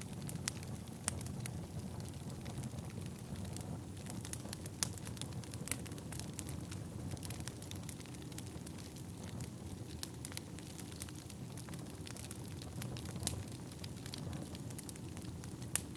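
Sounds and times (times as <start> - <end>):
firewood crackling and popping: 0.0 - 15.9
low rush of flames: 0.0 - 15.9.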